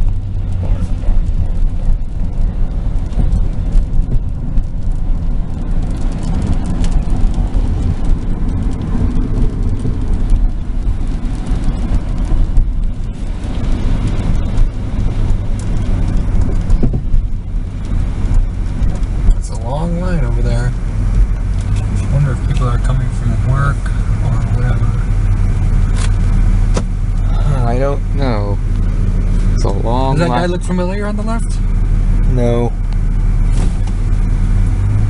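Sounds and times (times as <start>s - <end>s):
car cabin road and engine rumble: 0.0s - 35.0s.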